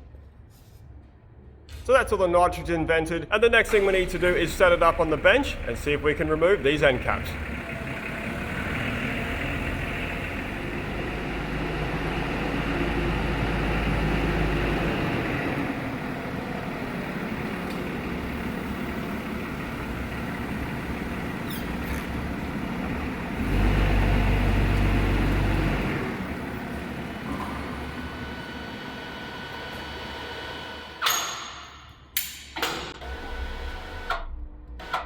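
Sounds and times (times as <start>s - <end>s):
heavy machine rumbling: 3.2s - 31.0s, 32.8s - 35.0s.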